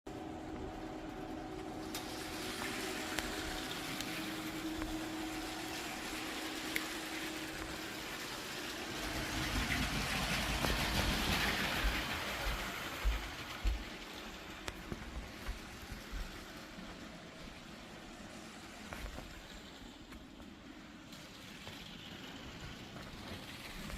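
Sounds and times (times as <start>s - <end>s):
rolling wheel noise: 0.1s - 17.4s, 18.2s - 23.9s.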